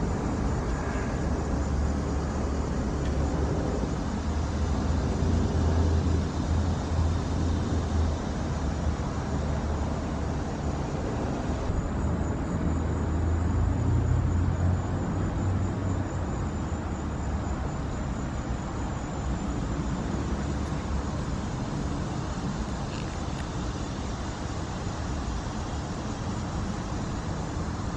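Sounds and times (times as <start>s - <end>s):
low outdoor background rumble: 0.0s - 27.9s.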